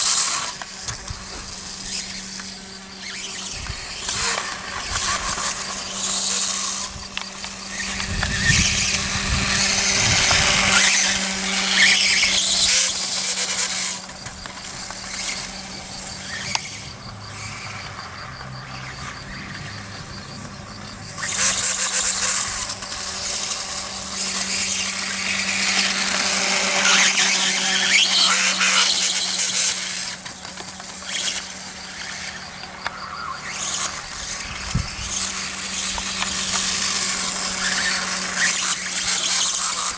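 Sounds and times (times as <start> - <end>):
toy dirtbike motor whining: 0.0 - 39.9.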